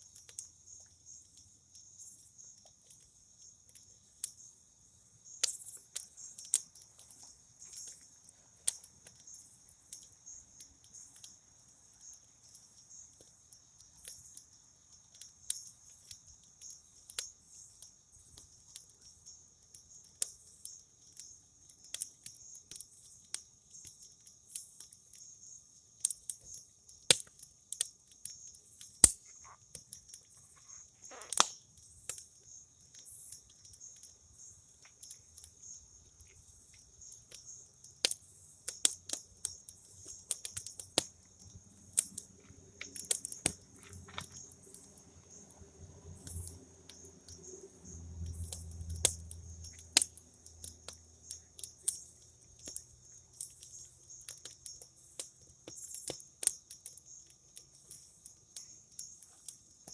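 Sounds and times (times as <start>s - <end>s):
crickets chirring: 0.0s - 59.9s
campfire crackling and popping: 5.2s - 59.9s.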